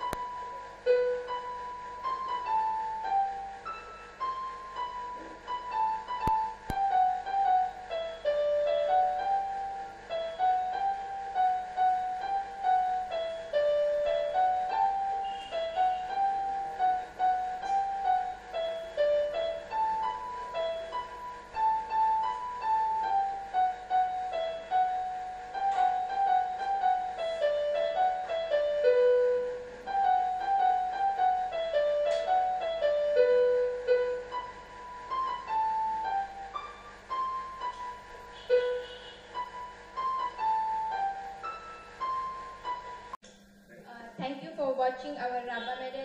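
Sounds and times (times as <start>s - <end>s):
electronic keyboard melody: 0.0s - 43.2s.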